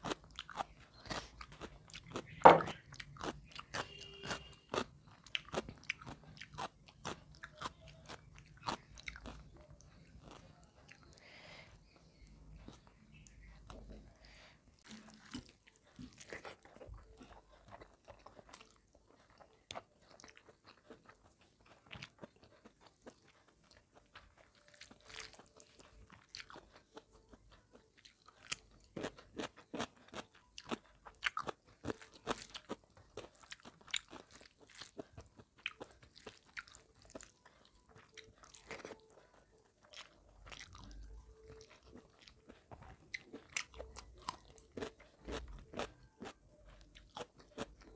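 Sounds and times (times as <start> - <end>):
crunchy chewing of cucumber: 0.0 - 47.9.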